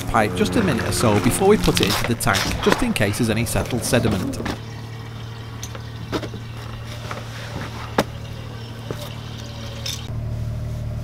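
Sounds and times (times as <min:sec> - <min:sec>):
steady low hum: 0:00.0 - 0:11.0
water running through a hose: 0:00.4 - 0:10.1.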